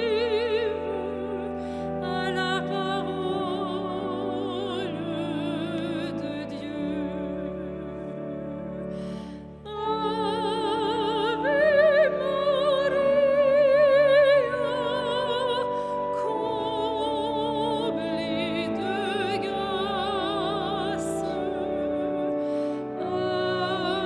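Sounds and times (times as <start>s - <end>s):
woman singing a hymn: 0.0s - 24.0s.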